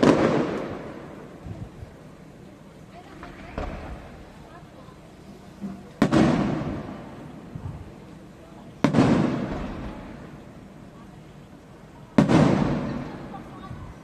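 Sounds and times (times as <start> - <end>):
fireworks booming with echo: 0.0 - 14.0.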